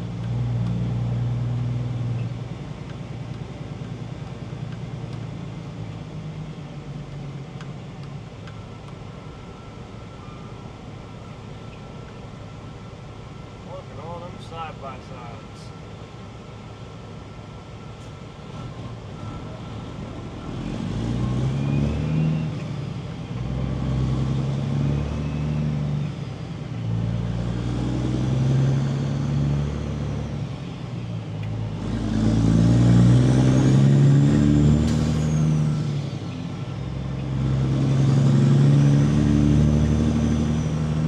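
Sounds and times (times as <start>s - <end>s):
truck diesel engine accelerating: 0.0s - 41.0s.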